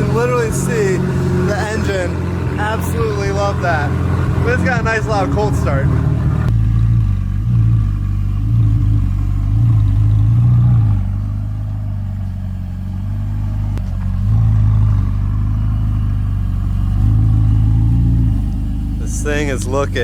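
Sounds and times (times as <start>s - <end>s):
sports car engine idling loudly: 0.0s - 20.0s.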